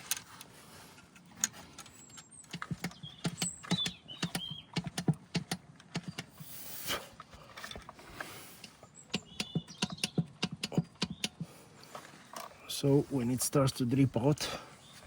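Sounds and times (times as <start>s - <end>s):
hand pump clicking and creaking: 0.0s - 6.6s, 7.2s - 13.5s.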